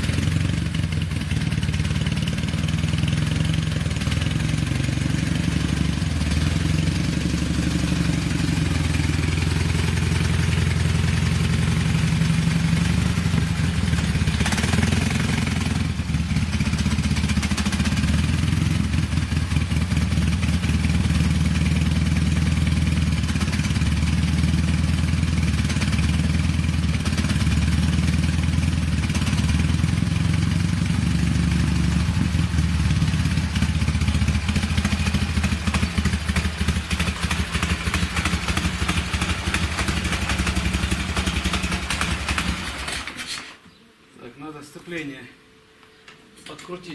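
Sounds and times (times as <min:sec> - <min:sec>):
motorcycle engine running: 0:00.0 - 0:43.3.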